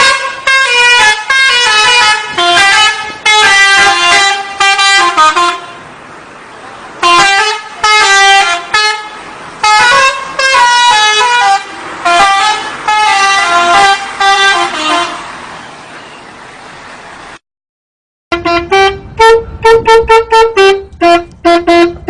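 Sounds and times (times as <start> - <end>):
multi-tone musical bus horn: 0.0 - 6.0, 7.0 - 16.3, 18.3 - 22.0.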